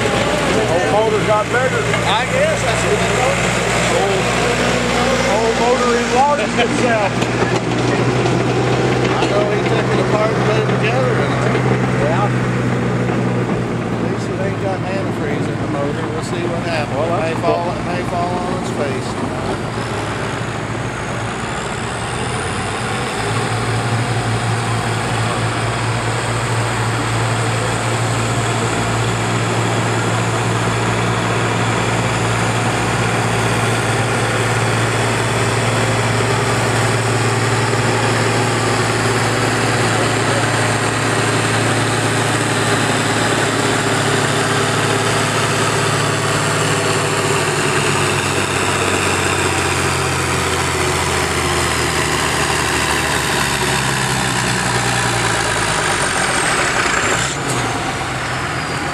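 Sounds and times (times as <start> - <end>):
tractor diesel engine droning: 0.0 - 58.9.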